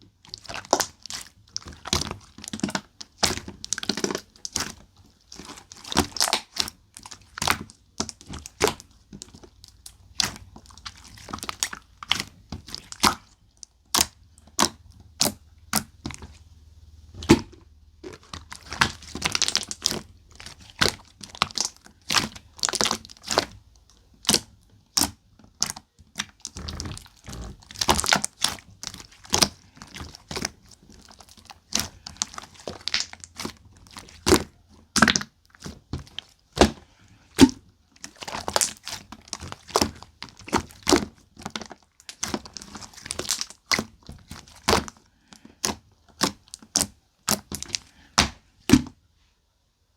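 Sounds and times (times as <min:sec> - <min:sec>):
slime clicking and popping: 0:05.4 - 0:16.3, 0:17.2 - 0:48.8.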